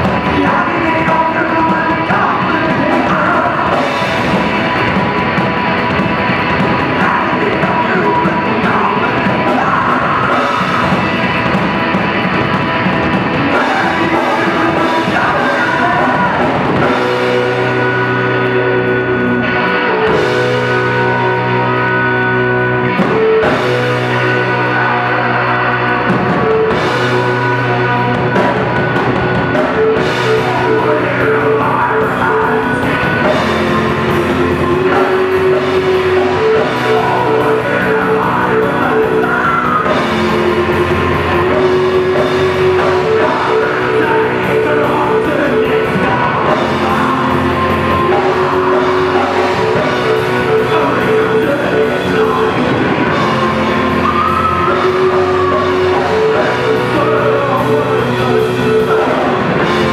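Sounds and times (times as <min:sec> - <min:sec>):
bass guitar: 0:00.0 - 0:59.9
drum kit: 0:00.0 - 0:59.9
electric guitars: 0:00.0 - 0:59.9
keyboard: 0:00.0 - 0:59.9
man singing: 0:00.0 - 0:59.9.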